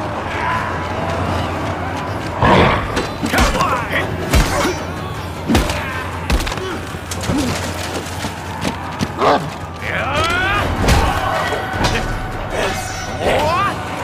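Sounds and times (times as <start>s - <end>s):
battle background noise: 0.0s - 14.0s.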